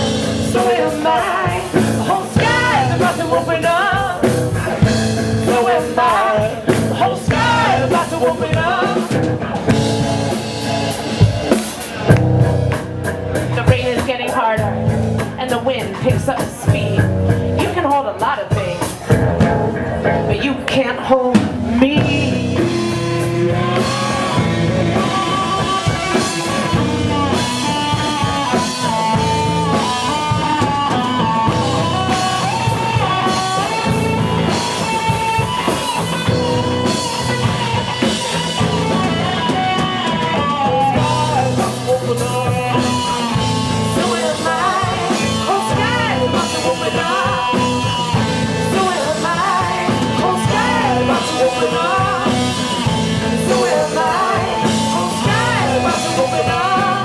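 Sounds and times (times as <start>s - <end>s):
wavering melodic lead line: 0.0s - 16.0s, 21.7s - 57.0s
drum kit: 0.0s - 57.0s
rock guitar: 0.0s - 57.0s.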